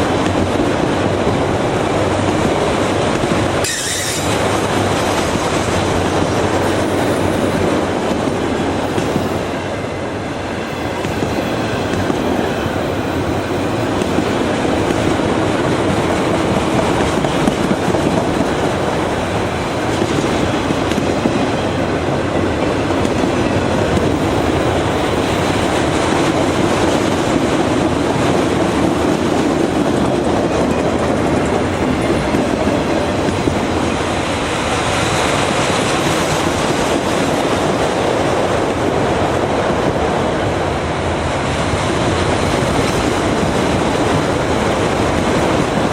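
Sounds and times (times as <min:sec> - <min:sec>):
train wheels on track: 0:00.0 - 0:45.9.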